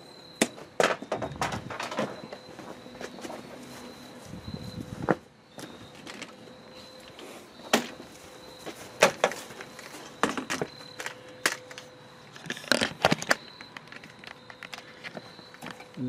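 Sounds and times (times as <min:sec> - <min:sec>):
faint high whine: 0:00.0 - 0:16.0
knocks and handling noises: 0:00.4 - 0:03.8, 0:04.9 - 0:16.0.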